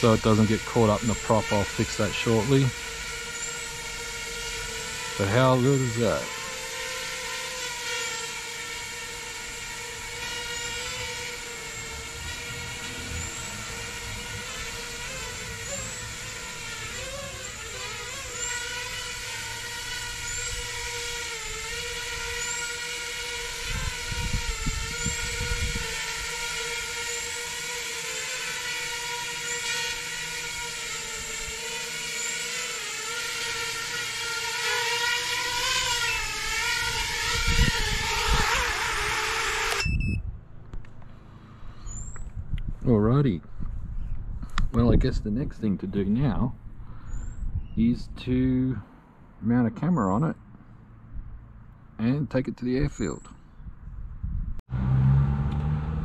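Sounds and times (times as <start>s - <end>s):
quadcopter motors whining: 0.0s - 48.7s, 54.6s - 56.0s.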